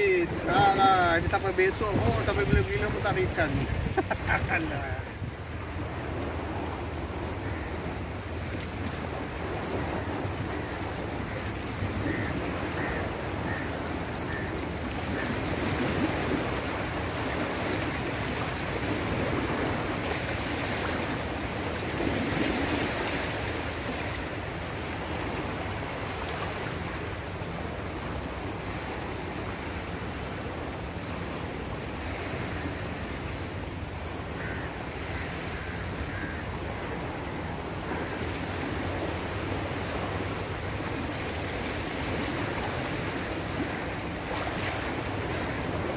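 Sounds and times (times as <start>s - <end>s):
sea water lapping on shore: 0.0s - 45.9s.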